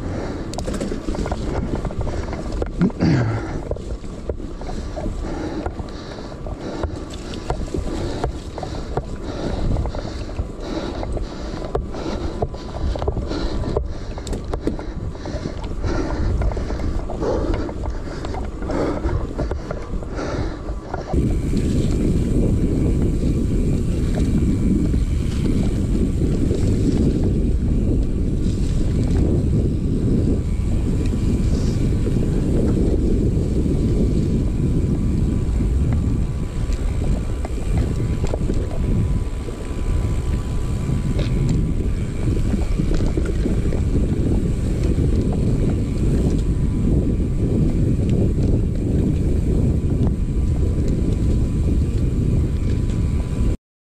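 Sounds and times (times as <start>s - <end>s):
bike clicks and knocks: 0.0s - 53.6s
bike tyres rolling over dirt: 0.0s - 53.6s
wind rumble on microphone: 0.0s - 53.6s.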